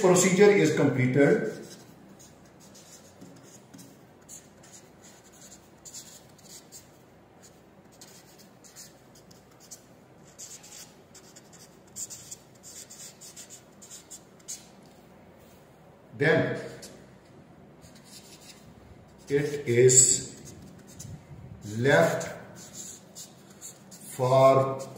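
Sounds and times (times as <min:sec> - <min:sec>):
marker pen scratching on paper: 0:01.4 - 0:14.8, 0:17.8 - 0:24.9.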